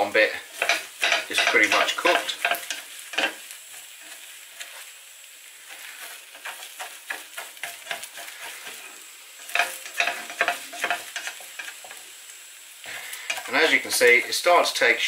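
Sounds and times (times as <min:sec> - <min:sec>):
spatula scraping and tapping pan: 0:00.0 - 0:04.9, 0:05.6 - 0:12.1, 0:12.8 - 0:14.9
faint sizzle of frying: 0:00.0 - 0:15.0.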